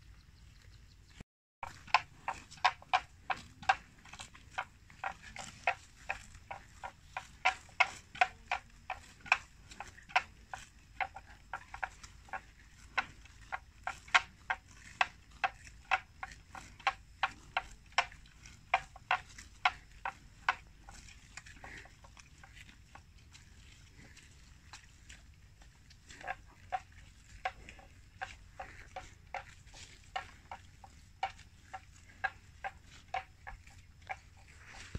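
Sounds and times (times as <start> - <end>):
water buffalo tearing grass: 1.6 - 34.9.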